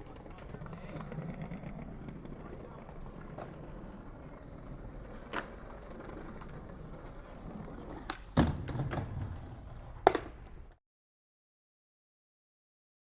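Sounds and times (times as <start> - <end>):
skateboard knocks: 0.0 - 10.8
skateboard wheels rumbling: 0.0 - 10.8.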